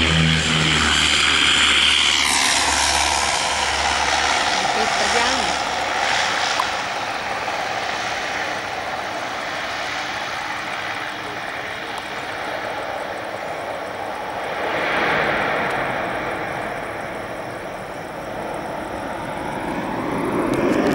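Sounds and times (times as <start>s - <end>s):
airliner engine noise: 0.0s - 20.9s.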